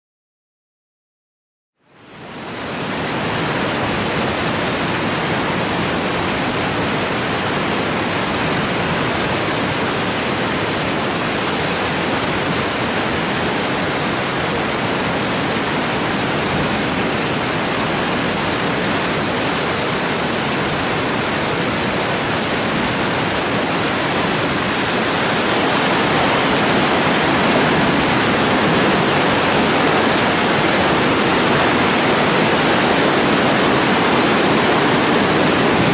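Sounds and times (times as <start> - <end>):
whitewater rushing: 2.2 - 35.9.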